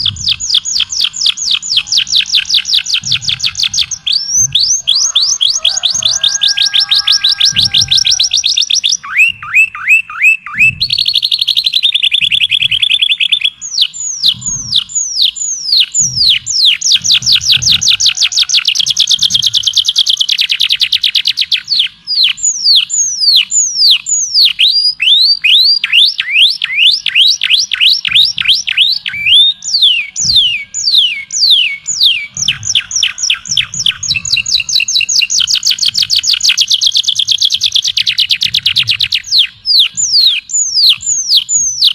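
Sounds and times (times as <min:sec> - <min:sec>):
songbird singing trills: 0:00.0 - 0:41.9.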